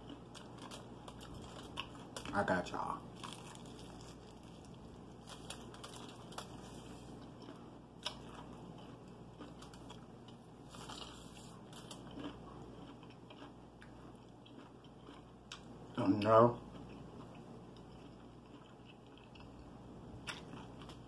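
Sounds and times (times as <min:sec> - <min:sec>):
chewing crispy food: 0:00.0 - 0:21.0.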